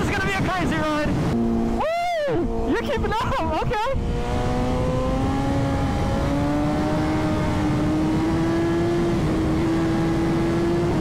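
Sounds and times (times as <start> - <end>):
wind rushing over microphone: 0.0 - 11.0
motorcycle engine accelerating: 1.2 - 11.0.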